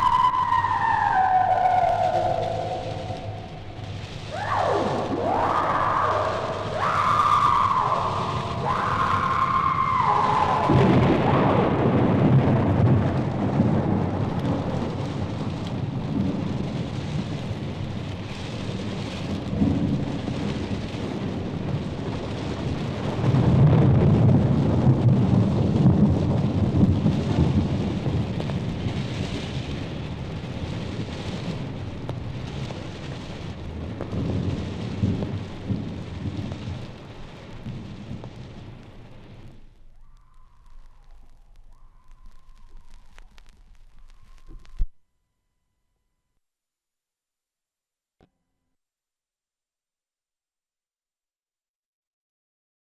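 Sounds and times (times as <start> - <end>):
rolling thunder: 0.0 - 44.8
steady rain: 0.0 - 45.0.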